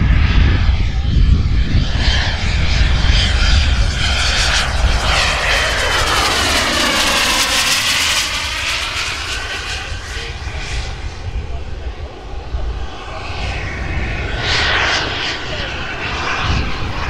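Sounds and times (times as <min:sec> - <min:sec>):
model jet turbine roar: 0:00.0 - 0:17.0.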